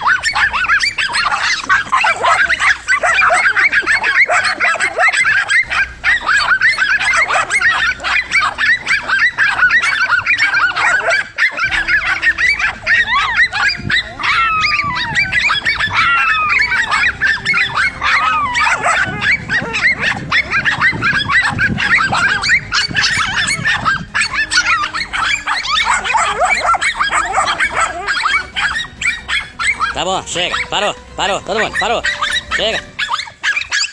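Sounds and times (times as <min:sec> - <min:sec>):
dogs barking: 0:00.0 - 0:33.9
dogs yelping: 0:00.0 - 0:33.9.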